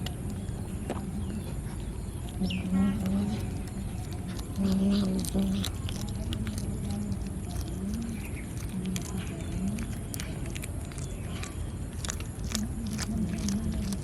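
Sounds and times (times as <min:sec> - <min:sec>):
cats chewing raw fish: 0:00.0 - 0:14.0.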